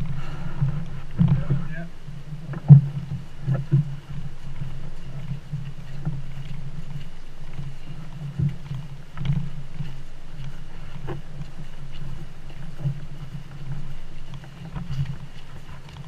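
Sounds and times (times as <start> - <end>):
low rumble under canoe hull: 0.0 - 16.0.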